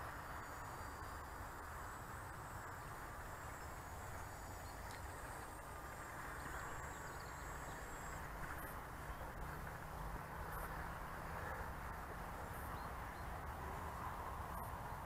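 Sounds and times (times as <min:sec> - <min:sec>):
even outdoor hiss: 0:00.0 - 0:15.0.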